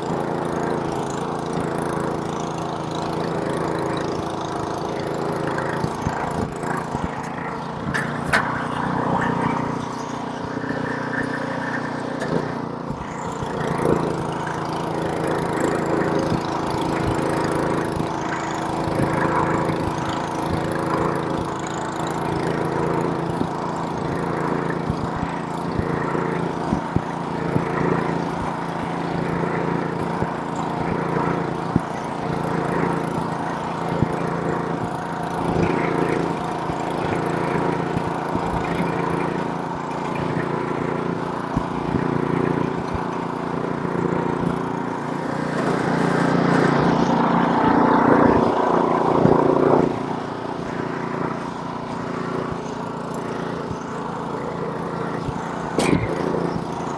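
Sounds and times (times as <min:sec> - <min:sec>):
snowblower engine running: 0:00.0 - 0:56.9.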